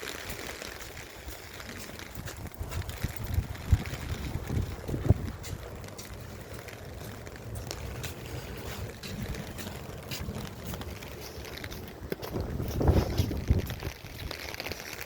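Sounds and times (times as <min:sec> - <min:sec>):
wind buffeting microphone: 0:00.2 - 0:15.0.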